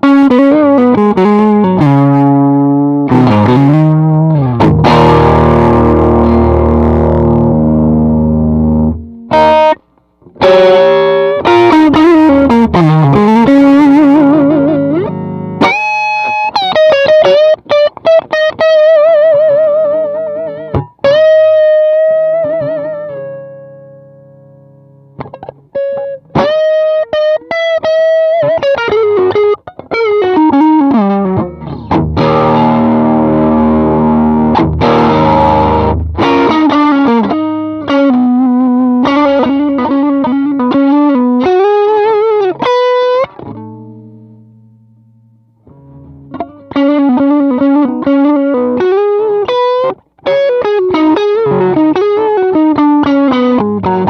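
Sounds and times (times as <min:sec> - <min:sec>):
overdriven electric guitar: 0:00.0 - 0:54.0.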